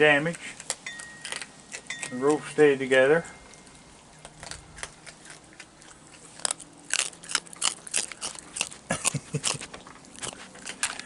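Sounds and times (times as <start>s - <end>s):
raccoons crunching food: 0.0s - 11.0s.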